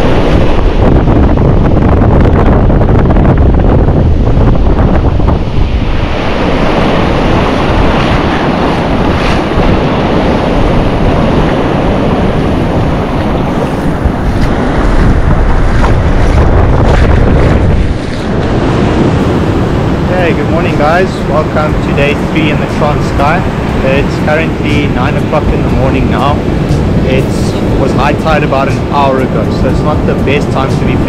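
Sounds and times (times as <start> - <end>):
surf washing over sand: 0.0 - 31.0
wind rumbling on microphone: 0.0 - 31.0.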